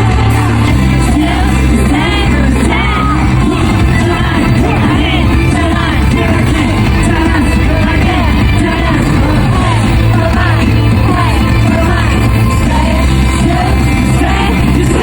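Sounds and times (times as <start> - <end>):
audience screaming: 0.0 - 15.0
person singing: 0.0 - 15.0
pop concert music with heavy bass: 0.0 - 15.0.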